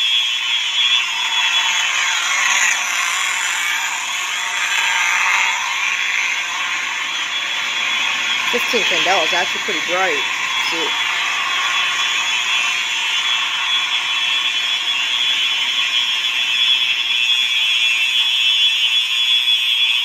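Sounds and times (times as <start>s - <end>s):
buzzy fire alarm horn: 0.0s - 20.0s.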